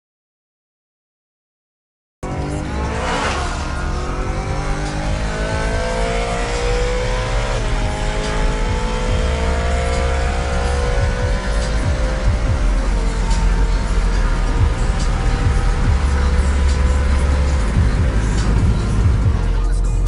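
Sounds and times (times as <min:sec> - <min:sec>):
car engine accelerating hard: 0:02.2 - 0:20.0.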